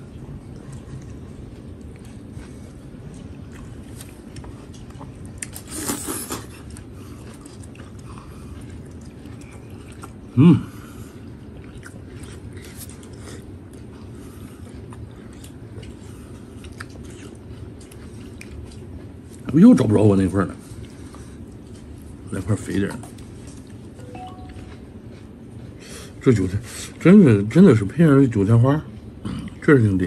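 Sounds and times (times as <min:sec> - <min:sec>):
man chewing with wet smacking: 0:00.0 - 0:30.0.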